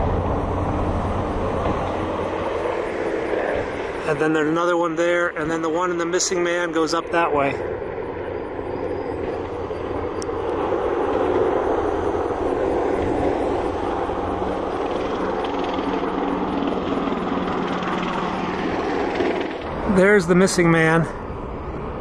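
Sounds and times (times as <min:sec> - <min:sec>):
helicopters flying overhead: 0:00.0 - 0:22.0.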